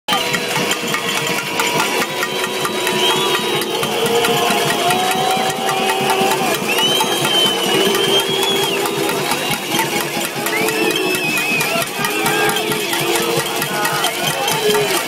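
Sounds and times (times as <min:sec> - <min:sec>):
long high tones: 0:00.1 - 0:14.6
crowd shouting and jeering: 0:00.1 - 0:15.0.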